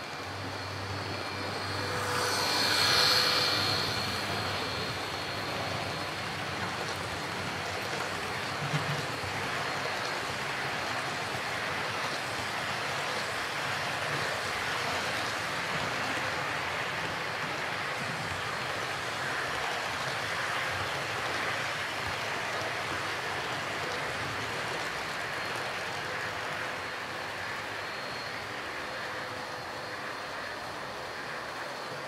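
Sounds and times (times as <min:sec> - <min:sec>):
model train passing with whine: 0:00.0 - 0:32.0.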